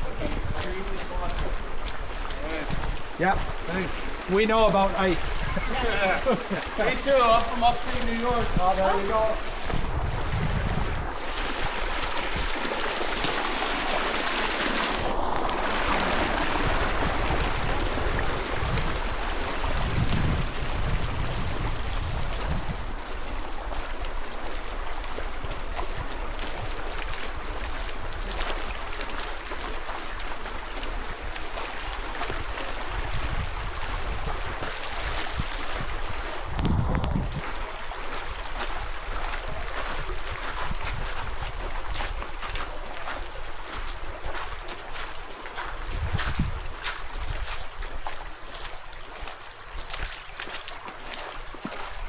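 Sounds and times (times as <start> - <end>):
wind rumble on microphone: 0.0 - 4.2, 7.4 - 13.3, 14.9 - 48.4
river water rushing: 0.0 - 10.1, 11.0 - 36.5, 37.3 - 45.9.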